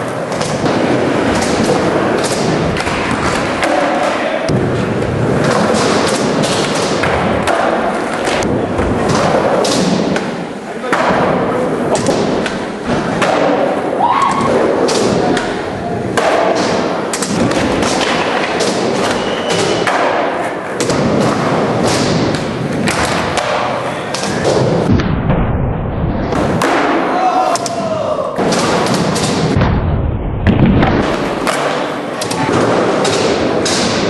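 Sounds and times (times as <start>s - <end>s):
skateboards rolling on ramps: 0.0s - 24.9s, 30.4s - 34.0s
skateboard impacts: 0.0s - 25.0s, 26.2s - 34.0s.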